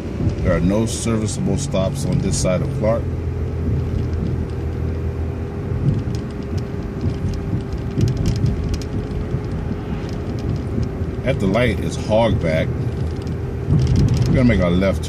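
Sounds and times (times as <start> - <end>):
bus engine and road rumble: 0.0 - 15.0
even whine: 0.0 - 15.0.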